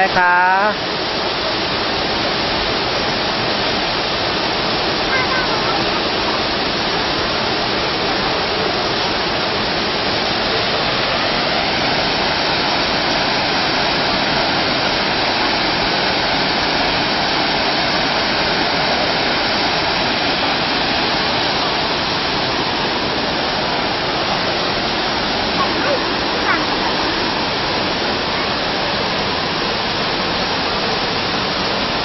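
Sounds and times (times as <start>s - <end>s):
waterfall rushing and splashing: 0.0s - 32.0s.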